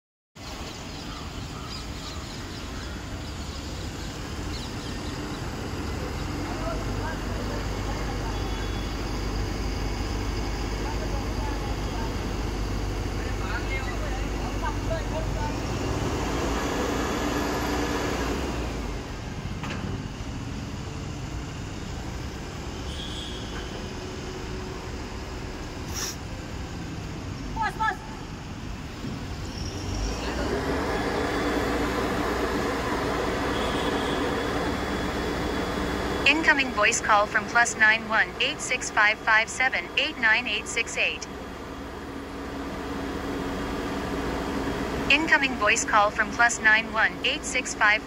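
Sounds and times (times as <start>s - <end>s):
crane engine rumbling: 0.5s - 48.0s.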